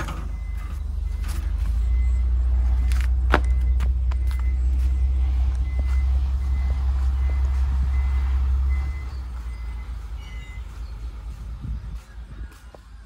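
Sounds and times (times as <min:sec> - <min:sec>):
truck engine low drone: 0:00.0 - 0:13.0.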